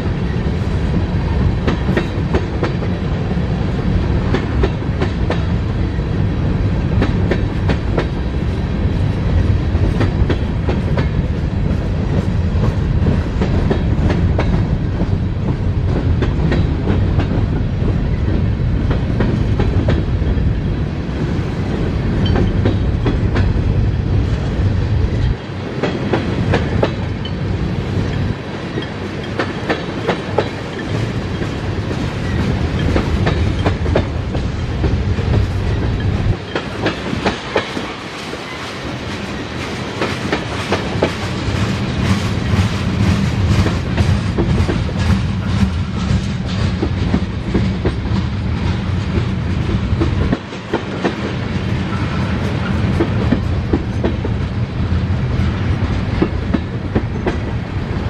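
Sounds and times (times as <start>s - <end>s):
train wheels clattering: 0.0s - 20.8s, 21.4s - 58.0s
train deep rumble: 0.0s - 58.0s.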